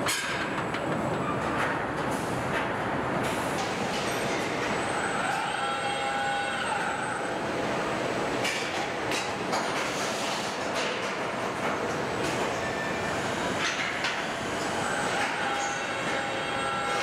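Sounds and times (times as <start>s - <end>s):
machinery clatter and hiss: 0.0s - 4.8s, 7.7s - 17.0s.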